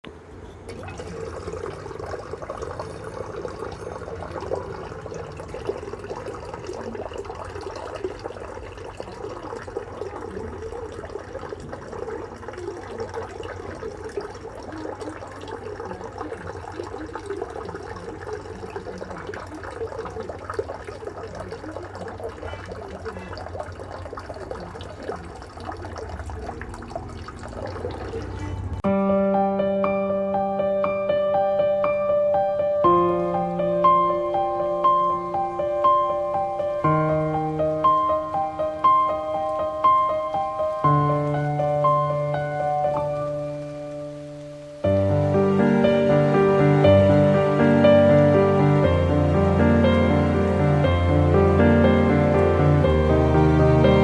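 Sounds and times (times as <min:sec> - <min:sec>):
water fountain trickling: 0:00.0 - 0:28.8, 0:32.8 - 0:54.0.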